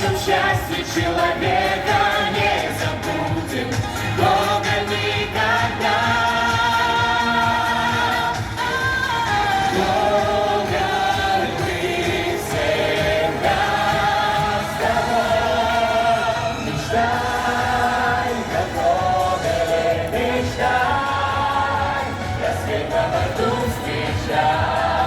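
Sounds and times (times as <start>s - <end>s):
choral singing: 0.0s - 25.0s.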